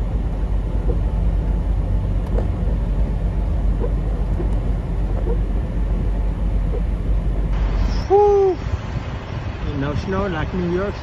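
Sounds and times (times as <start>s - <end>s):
road noise: 0.0s - 11.0s
truck diesel engine rumble: 0.0s - 11.0s.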